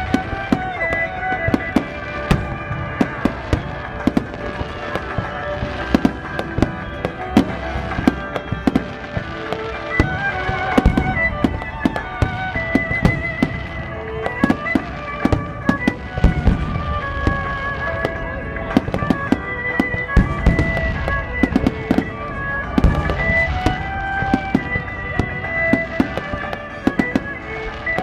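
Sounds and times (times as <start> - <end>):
fireworks bangs: 0.0 - 28.0
music with long held notes: 0.0 - 28.0.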